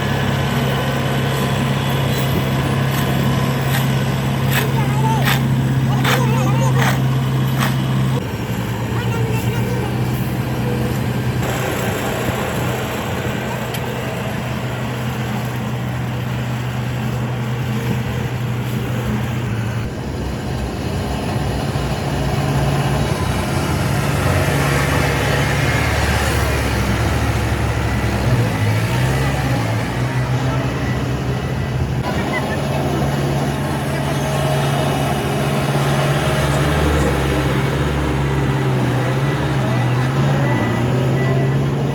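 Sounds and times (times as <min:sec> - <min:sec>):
heavy machinery diesel engines running: 0:00.0 - 0:41.9.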